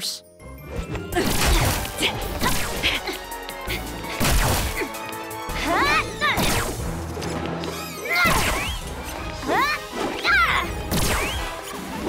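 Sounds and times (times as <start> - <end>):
dramatic music: 0.0 - 12.0.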